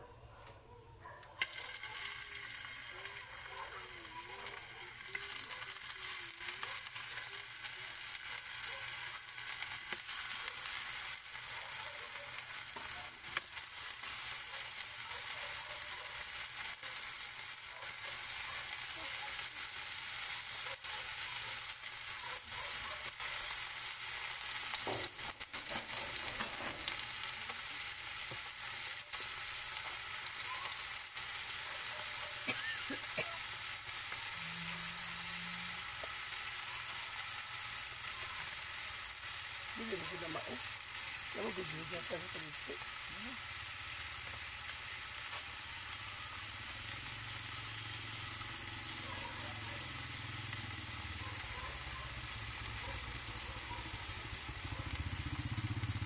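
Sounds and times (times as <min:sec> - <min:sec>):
oil crackles and pops: 0:01.3 - 0:56.0
potato slices sizzling in oil: 0:01.3 - 0:56.0.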